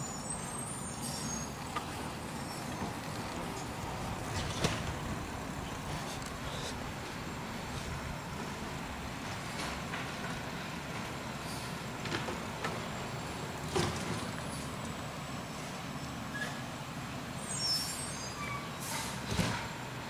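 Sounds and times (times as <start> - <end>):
garbage truck engine running: 0.0 - 18.2.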